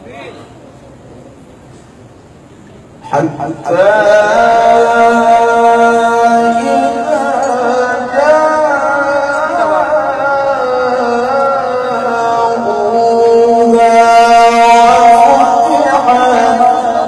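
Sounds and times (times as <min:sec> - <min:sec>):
man chanting through microphone: 0:03.0 - 0:17.0.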